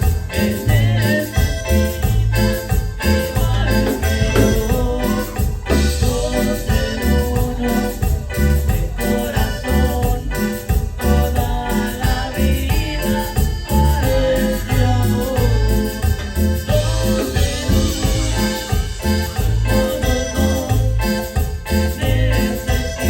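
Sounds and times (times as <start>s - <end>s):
live band playing through pa: 0.0s - 23.0s.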